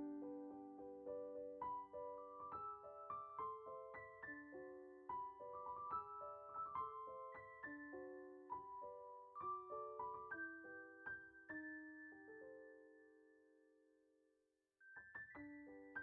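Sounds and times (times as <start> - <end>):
soft solo piano music: 0.0 - 13.6, 14.8 - 16.0.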